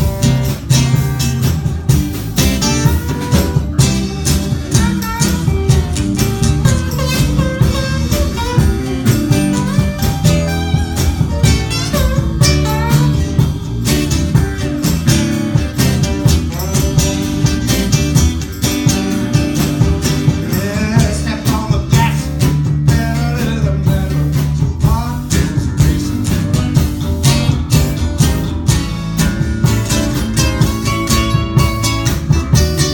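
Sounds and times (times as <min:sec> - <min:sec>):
live band playing blues-rock: 0:00.0 - 0:32.9.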